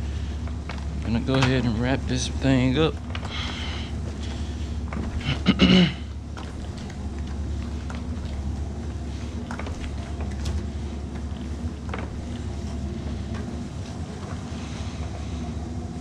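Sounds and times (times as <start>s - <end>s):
vacuum cleaner motor hum: 0.0s - 16.0s.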